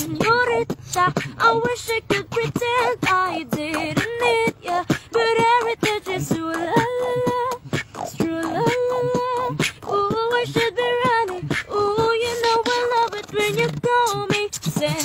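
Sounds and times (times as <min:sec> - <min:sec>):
beatboxing kick and snare: 0:00.0 - 0:15.0
woman singing wordless melody: 0:00.0 - 0:15.0.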